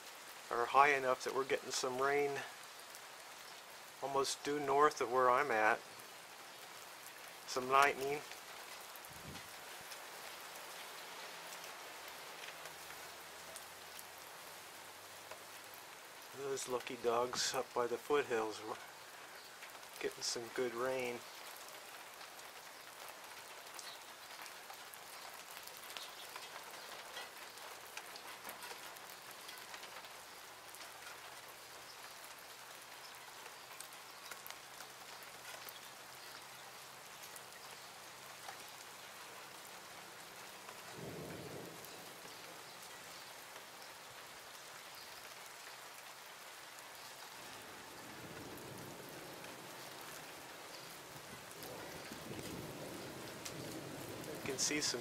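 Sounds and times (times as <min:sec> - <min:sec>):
light rain patter: 0:00.0 - 0:55.0.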